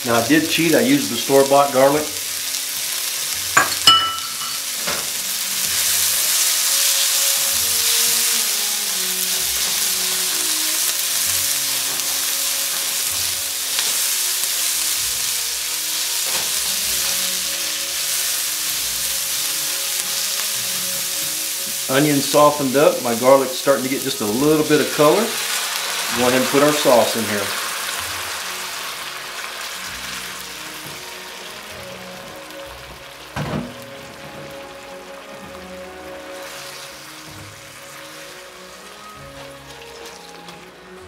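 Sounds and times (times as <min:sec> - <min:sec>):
onion sizzling in hot oil: 0:00.0 - 0:41.0.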